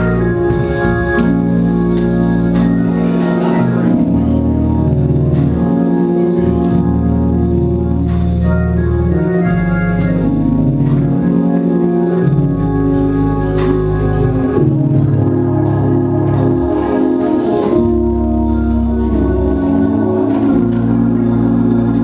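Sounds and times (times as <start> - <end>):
organ playing sustained chords: 0.0 - 22.0.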